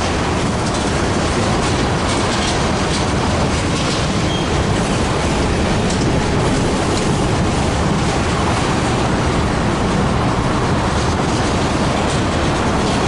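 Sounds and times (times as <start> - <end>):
freight train rolling past: 0.0 - 13.0
wheels clicking on rail: 0.0 - 13.0.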